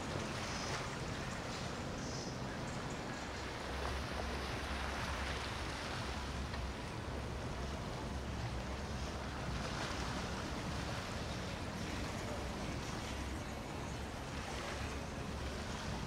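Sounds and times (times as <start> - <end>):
boat engines rumbling: 0.0 - 16.0
rushing wake and choppy water: 0.0 - 16.0.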